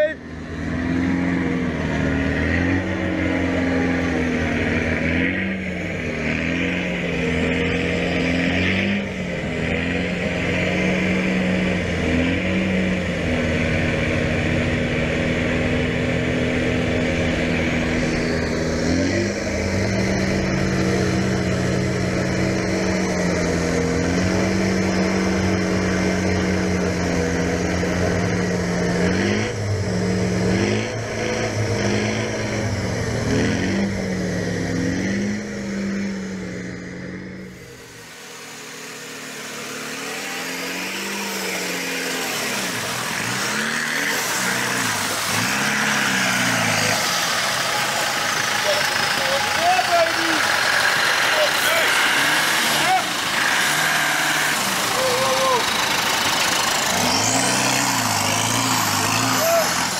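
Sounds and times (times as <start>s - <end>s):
engine revving hard in mud: 0.0s - 59.9s.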